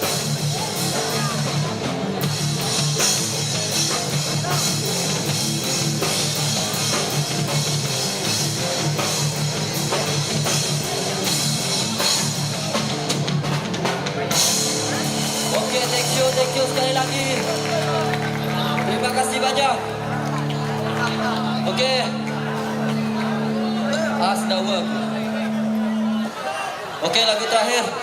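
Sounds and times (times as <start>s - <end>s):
drum kit: 0.0s - 25.9s
distorted electric guitars: 0.0s - 26.5s.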